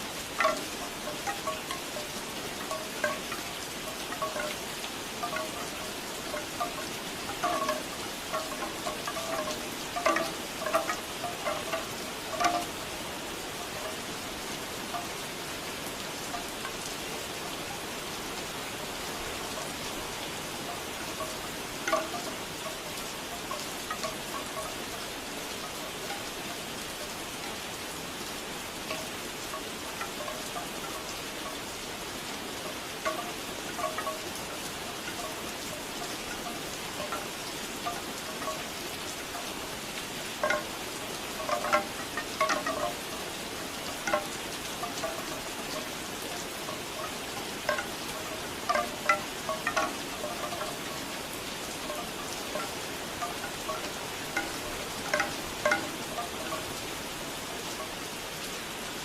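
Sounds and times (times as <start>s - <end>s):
bamboo wind chimes clacking: 0.0s - 59.0s
steady rain: 0.0s - 59.0s.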